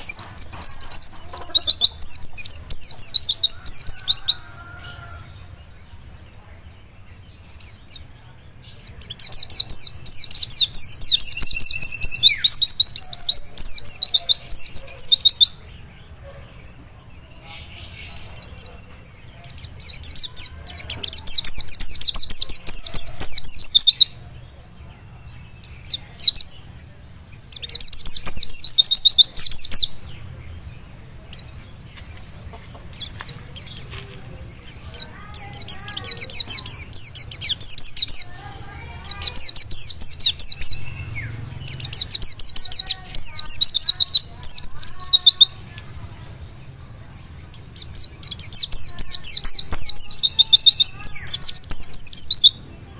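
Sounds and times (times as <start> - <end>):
bird chattering trills: 0.0 - 46.7, 47.4 - 52.9.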